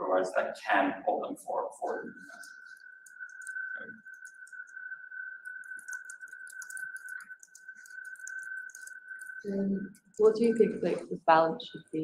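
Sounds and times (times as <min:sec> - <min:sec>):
high-pitched electronic whine: 0:00.0 - 0:12.0.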